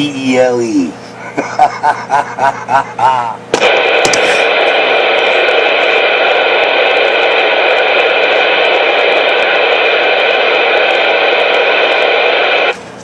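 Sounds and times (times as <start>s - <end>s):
radio static hiss: 1.1s - 12.8s.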